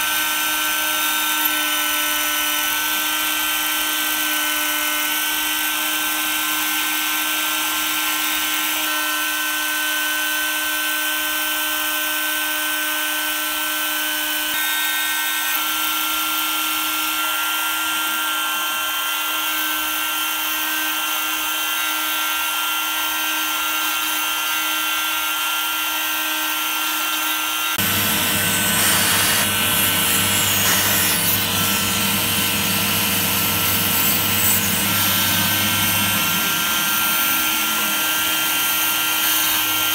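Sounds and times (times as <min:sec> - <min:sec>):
rotary tool spindle whining: 0:00.0 - 0:39.9.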